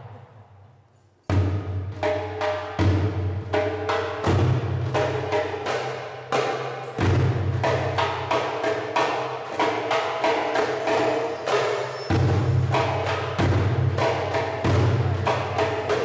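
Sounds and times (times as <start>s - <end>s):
goblet drum played fast: 1.4s - 16.0s.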